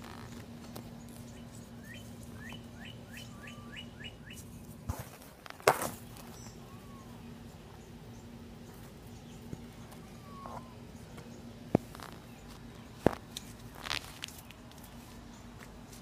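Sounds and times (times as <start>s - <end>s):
faint steady hum: 0.0s - 16.0s
bird chirping: 0.1s - 4.6s, 6.2s - 15.5s.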